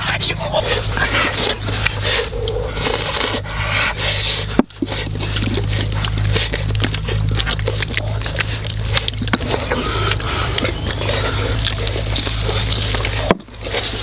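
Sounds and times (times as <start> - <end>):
steady low hum: 0.0 - 14.0
hands squishing raw chicken: 0.1 - 14.0.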